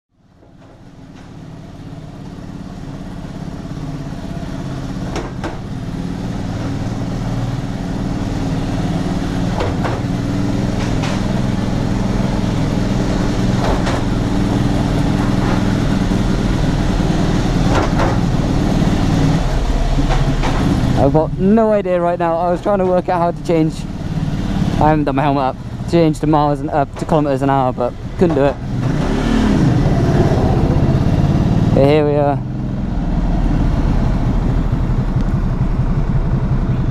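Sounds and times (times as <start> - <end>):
motorcycle engine running: 0.2 - 36.9.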